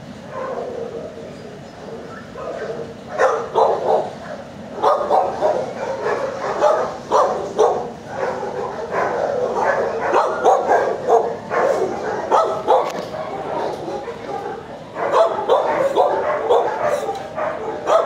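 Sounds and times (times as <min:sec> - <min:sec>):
dog barking: 0:00.3 - 0:01.0, 0:02.4 - 0:18.0.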